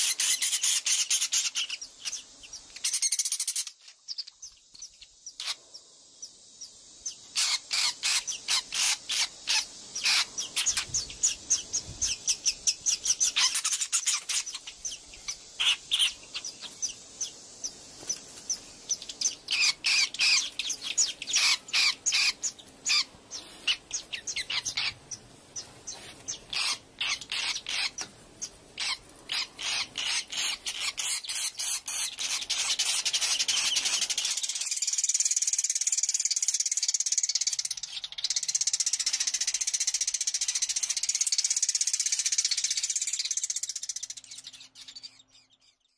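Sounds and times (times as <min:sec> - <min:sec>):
steady high hiss: 0:00.0 - 0:45.0.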